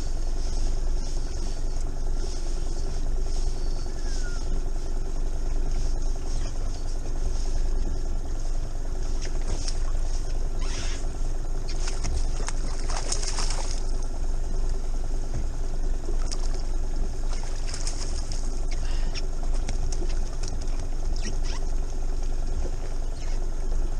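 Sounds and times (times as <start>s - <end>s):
boat engine idling: 0.0s - 23.9s.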